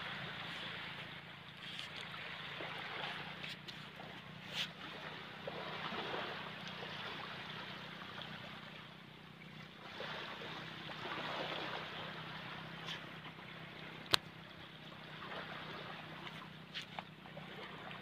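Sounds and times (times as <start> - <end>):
shallow water sloshing over sand: 0.0 - 18.0.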